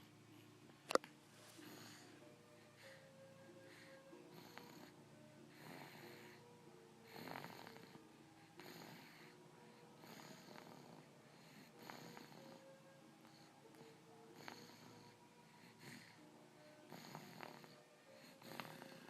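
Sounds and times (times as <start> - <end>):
person snoring quietly: 0.9 - 19.0.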